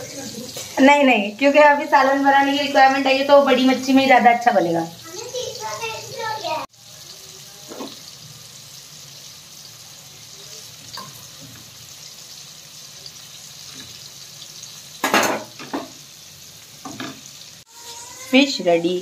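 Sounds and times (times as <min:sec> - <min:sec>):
oil sizzling around frying fish: 0:00.0 - 0:19.0.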